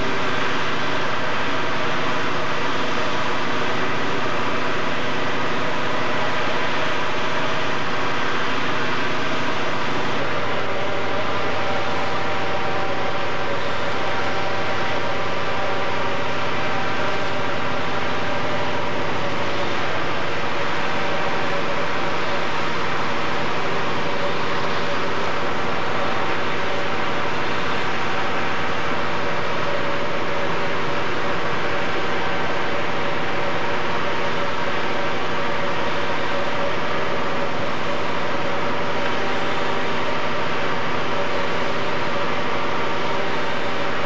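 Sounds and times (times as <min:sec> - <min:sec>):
engine running steadily: 0:00.0 - 0:44.0.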